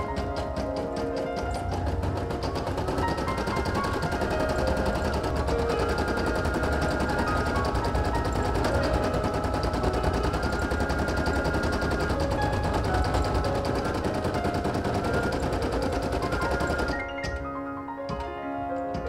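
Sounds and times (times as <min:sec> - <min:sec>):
embroidery machine rattling: 0:00.0 - 0:17.6.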